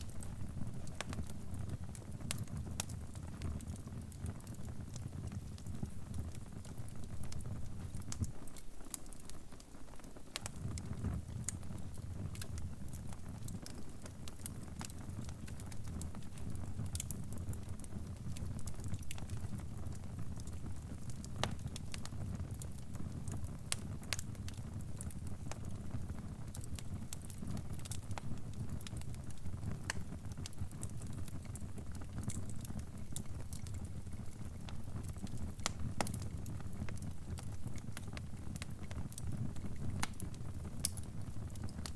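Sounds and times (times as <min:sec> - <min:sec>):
fire pops and crackles: 0:00.0 - 0:41.9
low rumble of flames: 0:00.0 - 0:41.9.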